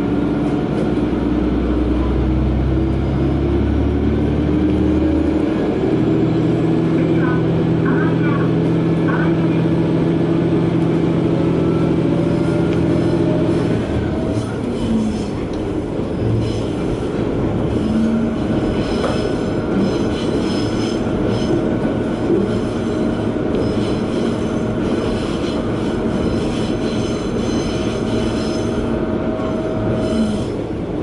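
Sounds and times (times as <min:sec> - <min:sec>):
railcar engine and rail rumble: 0:00.0 - 0:31.0.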